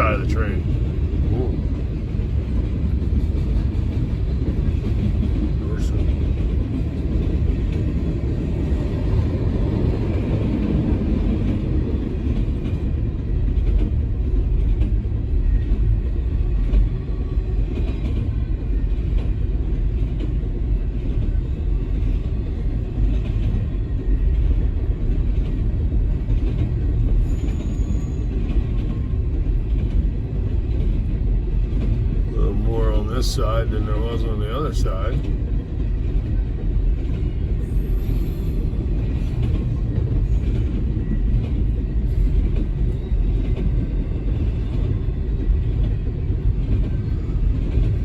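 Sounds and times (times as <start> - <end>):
freight train cars rolling past: 0.0 - 48.0.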